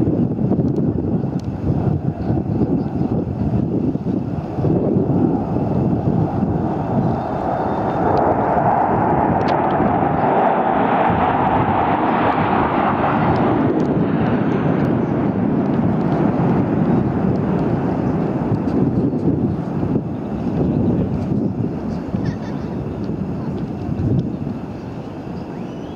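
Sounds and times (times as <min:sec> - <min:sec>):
fighter jet flying overhead: 0:00.0 - 0:25.9.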